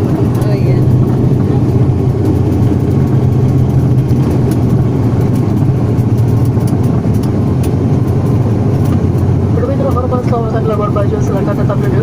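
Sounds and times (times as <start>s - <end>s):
airliner engine rumble in cabin: 0.0s - 12.0s.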